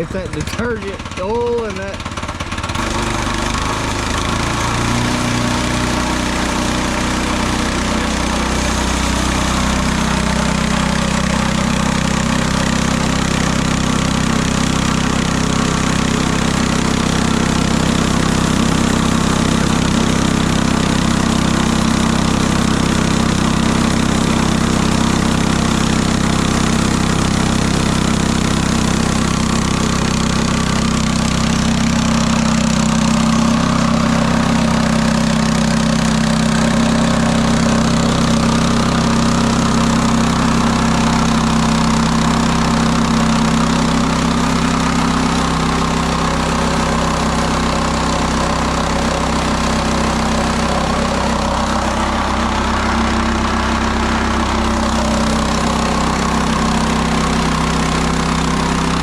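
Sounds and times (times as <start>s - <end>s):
small gasoline engine running: 0.0s - 59.0s.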